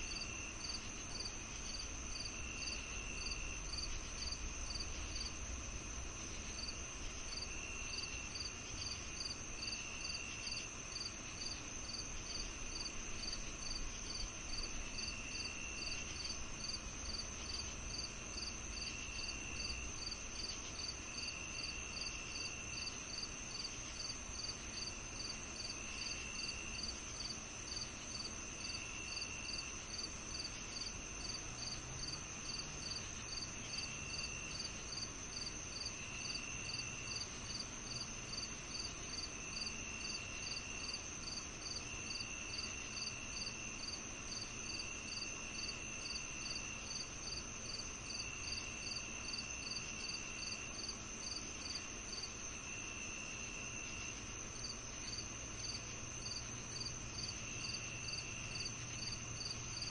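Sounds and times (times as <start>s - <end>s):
continuous high insect trill: 0.0s - 59.9s
crickets chirping: 0.0s - 59.9s
insect trills: 6.1s - 59.9s.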